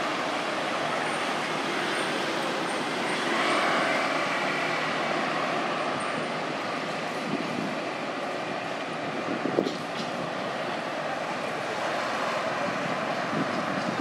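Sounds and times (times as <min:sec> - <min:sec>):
passing road traffic: 0:00.0 - 0:14.0.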